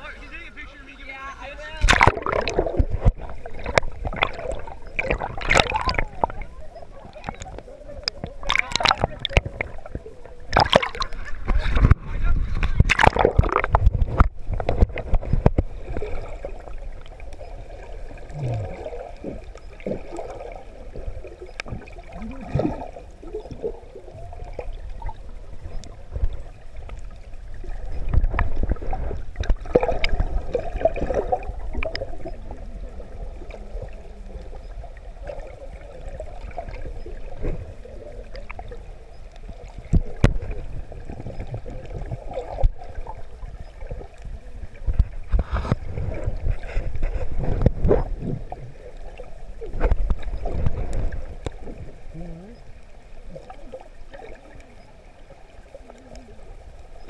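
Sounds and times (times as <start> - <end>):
underwater moving water gurgling: 0.0 - 57.0.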